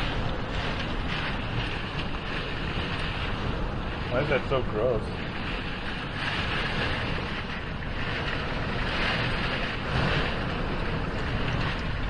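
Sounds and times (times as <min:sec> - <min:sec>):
strong wind rushing: 0:00.0 - 0:12.0.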